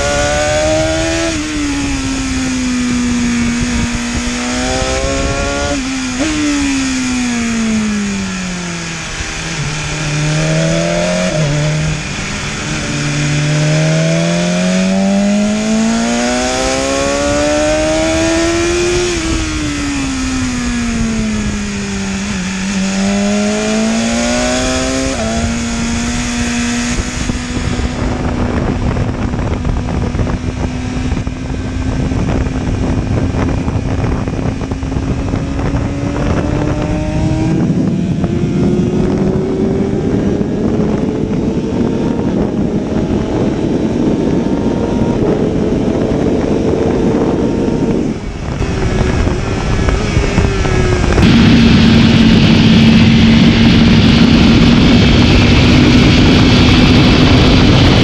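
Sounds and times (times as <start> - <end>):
motorcycle engine revving: 0.0 - 58.0
rushing wind noise: 0.0 - 58.0.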